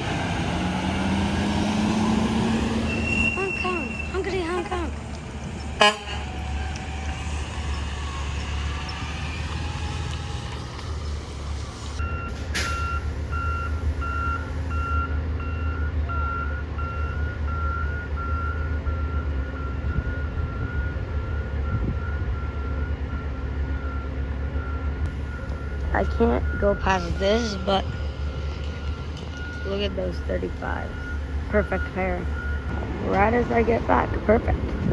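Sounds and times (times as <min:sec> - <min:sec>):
truck diesel engine running: 0:00.0 - 0:34.9
truck reversing alarm beeping: 0:00.0 - 0:34.9.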